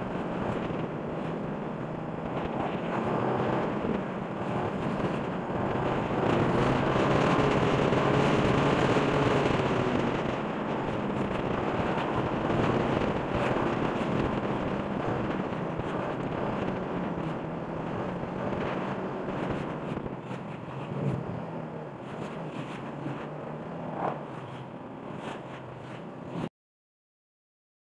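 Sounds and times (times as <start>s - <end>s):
motorcycle engine hum: 0.0s - 26.4s
wind rushing over microphone: 0.0s - 26.5s.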